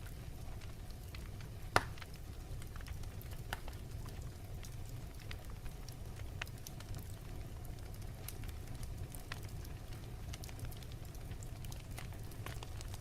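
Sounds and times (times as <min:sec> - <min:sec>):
burning wood popping and snapping: 0:00.0 - 0:13.0
fire low rumble: 0:00.0 - 0:13.0.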